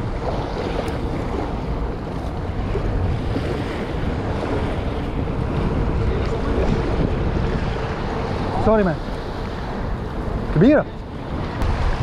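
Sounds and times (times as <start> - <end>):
small waves lapping: 0.0 - 12.0
wind buffeting microphone: 0.0 - 12.0.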